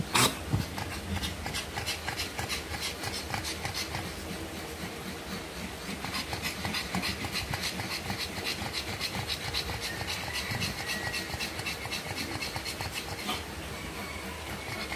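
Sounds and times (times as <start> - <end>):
dog panting rapidly: 0.4 - 14.9.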